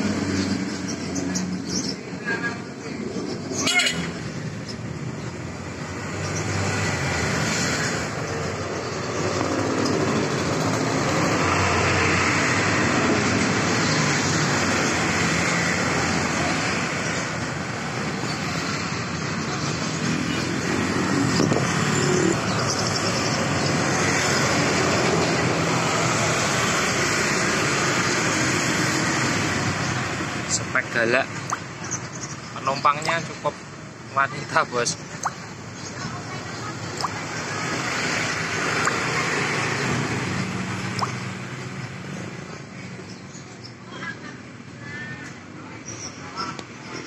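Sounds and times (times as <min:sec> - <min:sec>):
vehicles passing: 0:00.0 - 0:47.0.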